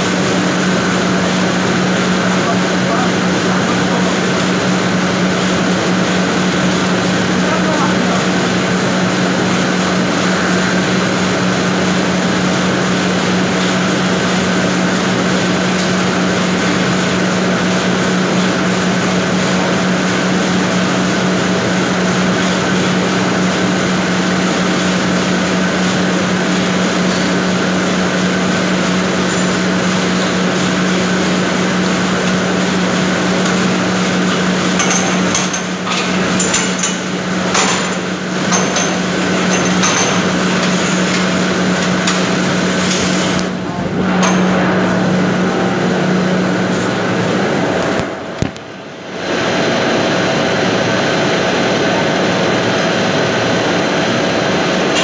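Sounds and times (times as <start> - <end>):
production line machine noise: 0.0 - 55.0.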